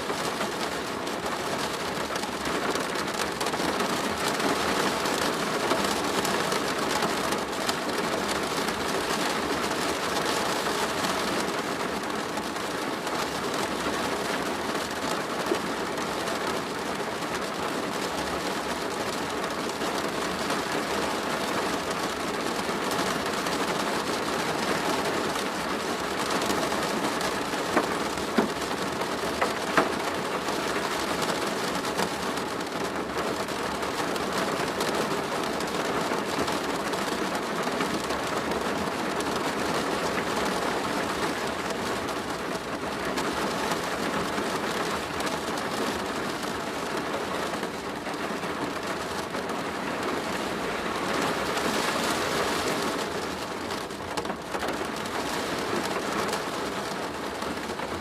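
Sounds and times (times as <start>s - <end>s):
heavy rain on a plastic roof: 0.0s - 58.0s.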